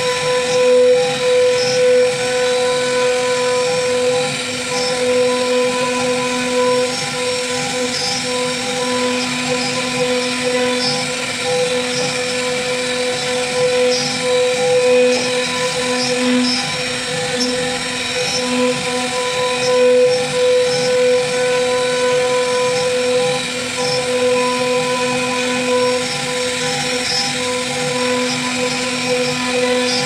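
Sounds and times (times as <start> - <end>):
bit cutting wood: 0.0 - 30.0
router spindle whine: 0.0 - 30.0.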